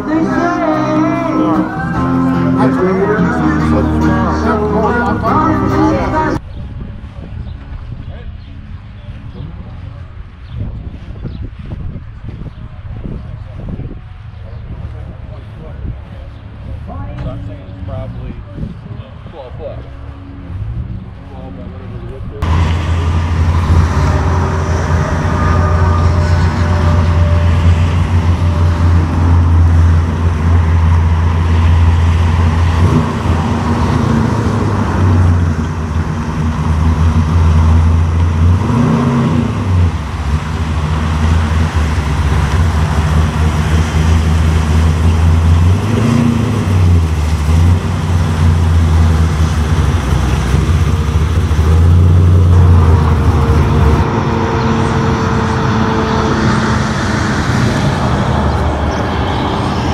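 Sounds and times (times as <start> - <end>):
second car engine: 0.0 - 11.4, 12.4 - 59.9
car engine idling and revving: 0.0 - 59.9.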